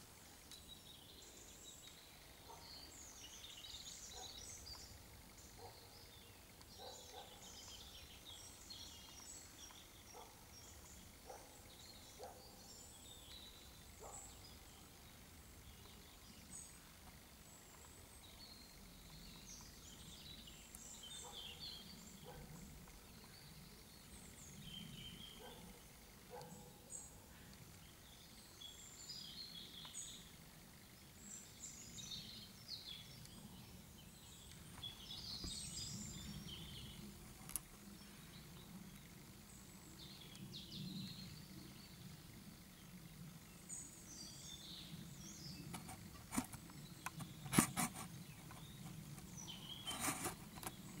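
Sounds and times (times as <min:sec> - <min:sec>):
faint birdsong: 0:00.0 - 0:51.0.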